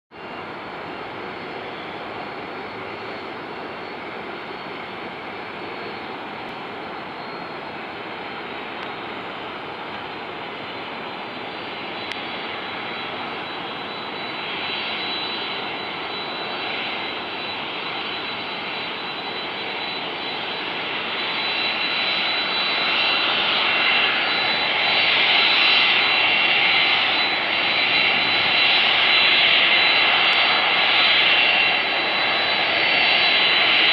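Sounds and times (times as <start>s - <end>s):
jet engines taxiing: 0.2s - 33.9s.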